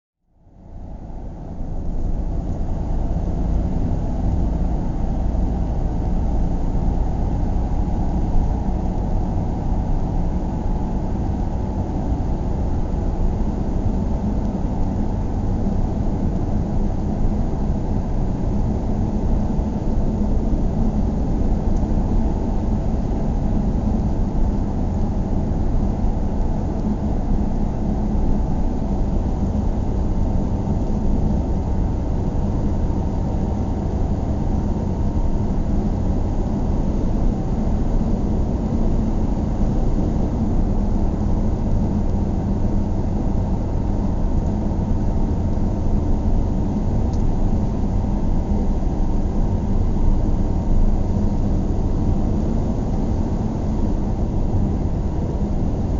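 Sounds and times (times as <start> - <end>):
car engine and road noise: 0.3 - 55.9.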